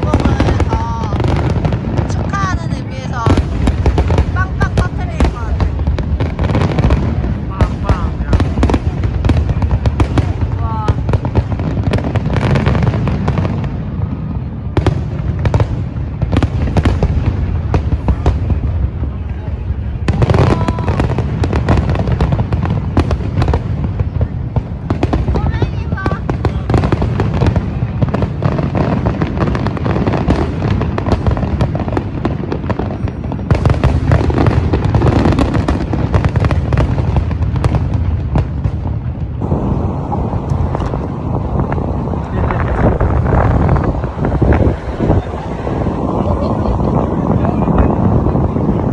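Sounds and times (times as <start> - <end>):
fireworks cracks and bangs: 0.0 - 48.9
low rumble of booms: 0.0 - 48.9.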